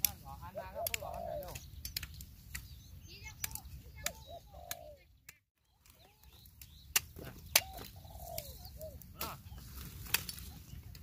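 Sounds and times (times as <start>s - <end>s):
birds calling and chirping: 0.0s - 11.0s.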